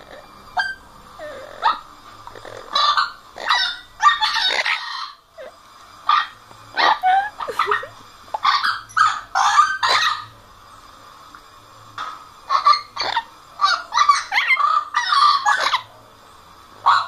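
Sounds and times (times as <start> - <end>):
parrot squawking: 0.0 - 10.3, 12.5 - 15.9.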